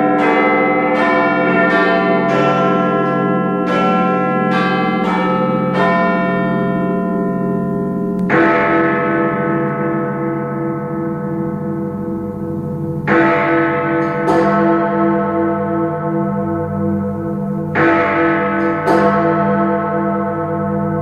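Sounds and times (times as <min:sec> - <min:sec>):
heavy clock bell strikes: 0:00.0 - 0:21.0.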